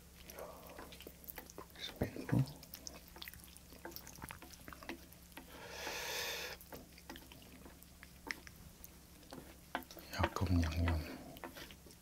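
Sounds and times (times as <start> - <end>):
wet chewing clicks and smacks: 0.0 - 5.6, 6.4 - 12.0.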